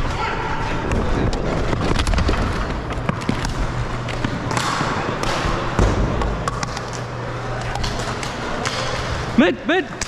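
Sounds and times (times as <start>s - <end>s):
hockey sticks and ball clacking: 0.9s - 9.4s.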